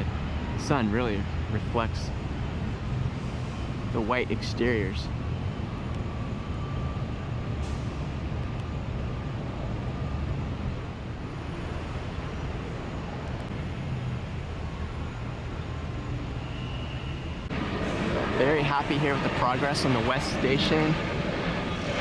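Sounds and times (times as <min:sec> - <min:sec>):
low engine drone: 0:00.0 - 0:22.0
traffic rumble: 0:00.0 - 0:22.0.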